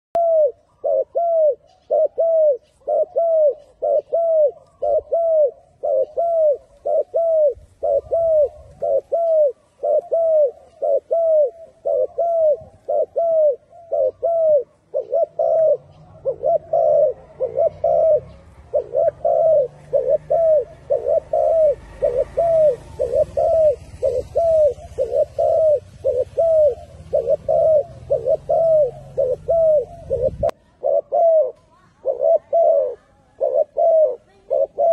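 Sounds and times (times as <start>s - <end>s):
dove cooing: 0.2s - 34.9s.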